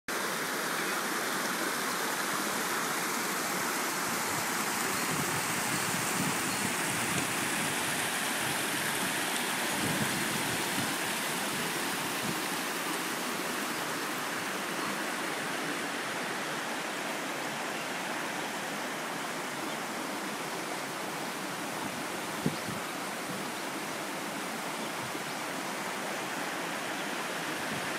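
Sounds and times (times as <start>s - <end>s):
stream rushing over rocks: 0.1s - 27.9s.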